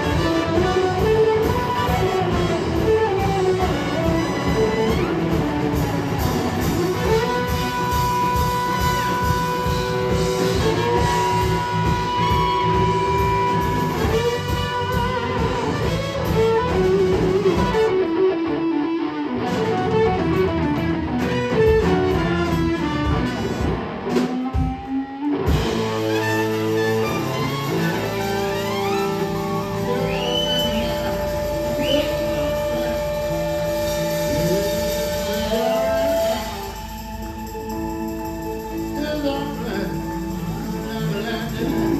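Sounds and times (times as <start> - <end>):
bass and drums: 0.0 - 18.8, 19.4 - 41.9
electric guitar: 0.0 - 41.9.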